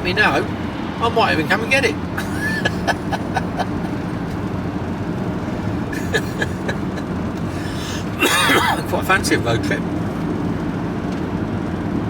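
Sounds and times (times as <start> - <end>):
van engine and tyres droning: 0.0 - 12.0.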